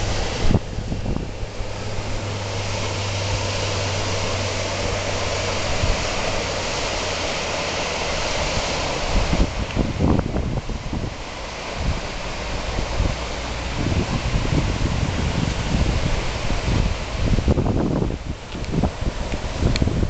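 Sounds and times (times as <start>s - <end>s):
outboard motor running: 0.0s - 20.0s
rush of wind and water: 0.0s - 20.0s
wind buffeting microphone: 0.0s - 20.0s.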